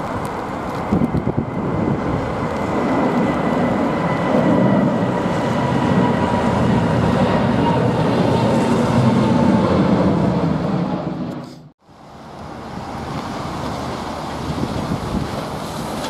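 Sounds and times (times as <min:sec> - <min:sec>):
wind on microphone: 0:00.0 - 0:11.1, 0:12.8 - 0:16.0
distant jet noise: 0:00.0 - 0:16.0
jet engines passing overhead: 0:00.0 - 0:16.0.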